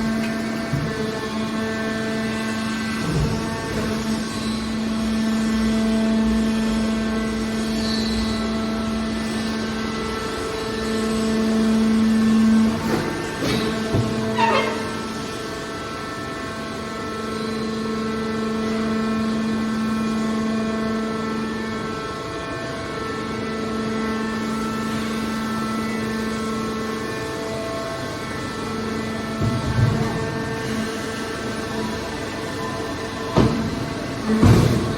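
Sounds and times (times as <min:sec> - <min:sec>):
hydraulic power unit humming: 0:00.0 - 0:34.9.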